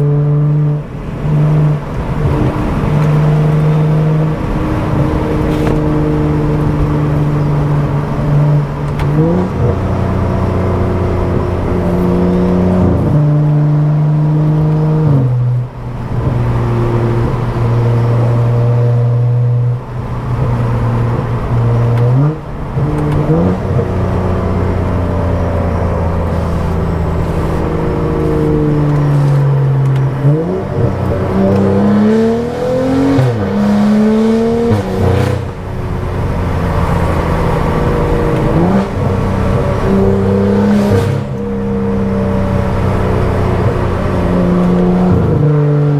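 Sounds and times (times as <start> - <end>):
car engine and loud exhaust: 0.0 - 45.9.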